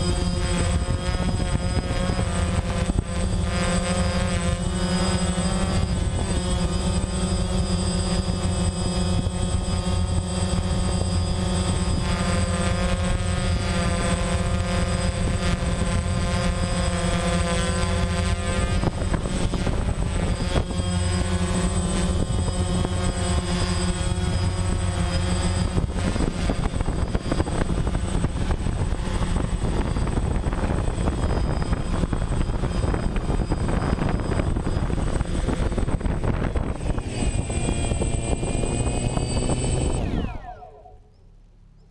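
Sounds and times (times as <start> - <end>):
drone propellers whirring: 0.0 - 41.9.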